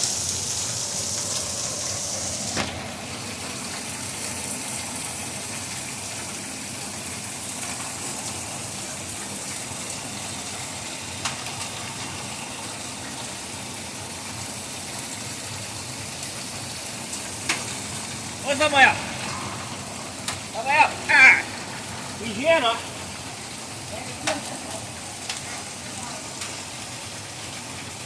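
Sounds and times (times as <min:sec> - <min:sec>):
heavy rain with hail: 0:00.0 - 0:28.0.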